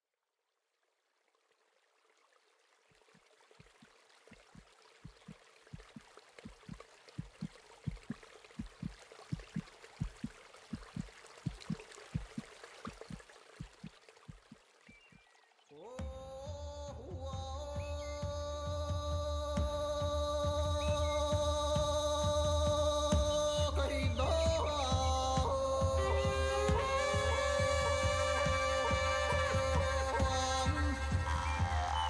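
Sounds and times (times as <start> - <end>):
running water: 0.5 - 32.0.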